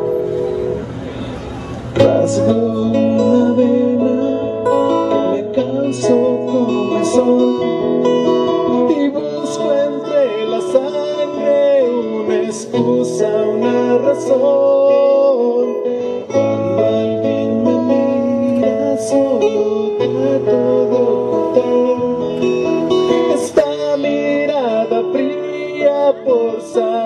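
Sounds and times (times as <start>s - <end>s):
acoustic guitar strummed: 0.0s - 27.0s
person singing: 1.9s - 27.0s.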